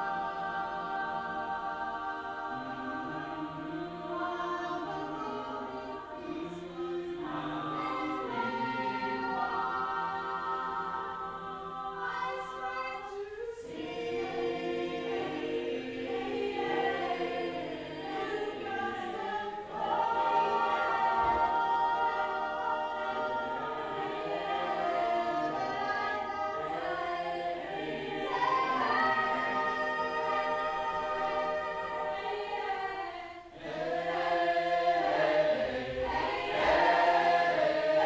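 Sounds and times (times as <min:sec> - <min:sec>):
choir singing unaccompanied: 0:00.0 - 0:38.0.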